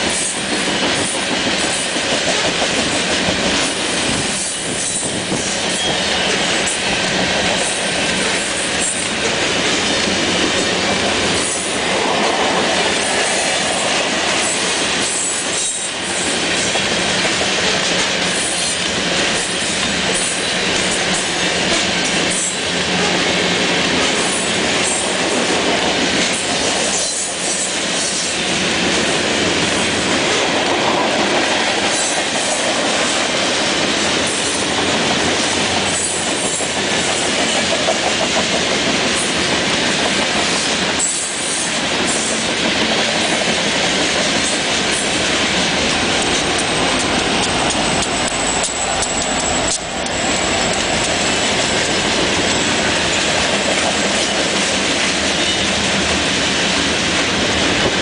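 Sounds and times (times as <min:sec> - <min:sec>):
steel train wheels on rails: 0:00.0 - 0:58.0.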